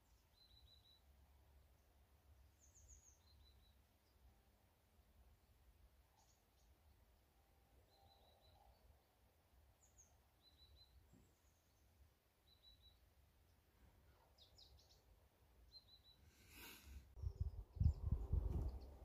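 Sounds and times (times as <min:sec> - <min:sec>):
faint high bird chirps: 0:00.0 - 0:01.2, 0:02.4 - 0:04.3, 0:06.0 - 0:19.0.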